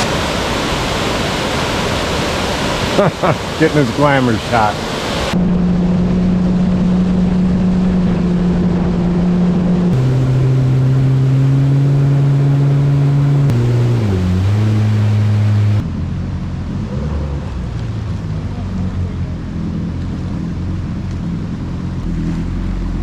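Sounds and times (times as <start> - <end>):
wind: 0.0 - 23.0
jet ski engine running: 2.5 - 15.9, 17.7 - 23.0.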